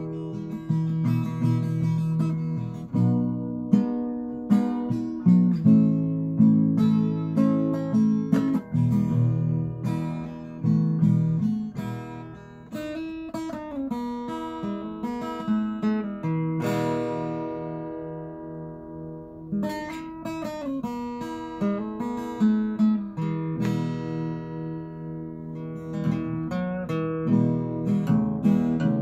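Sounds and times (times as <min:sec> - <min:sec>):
acoustic guitar melody: 0:00.0 - 0:29.0.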